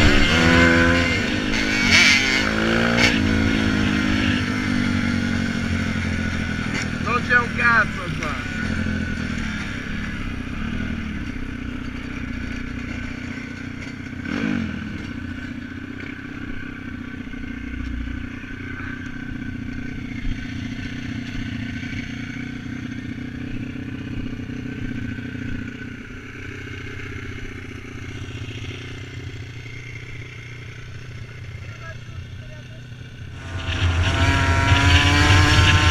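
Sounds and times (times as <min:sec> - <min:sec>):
dirt bike engine running: 0:00.0 - 0:35.9.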